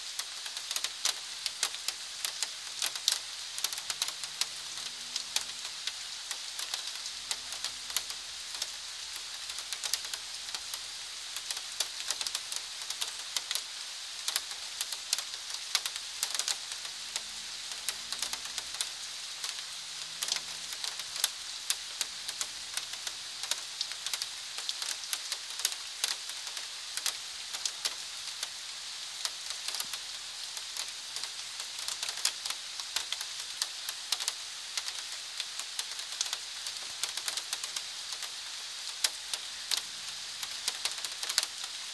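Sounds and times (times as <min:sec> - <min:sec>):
rainfall hiss: 0:00.0 - 0:41.9
raindrops tapping close by: 0:00.1 - 0:41.9.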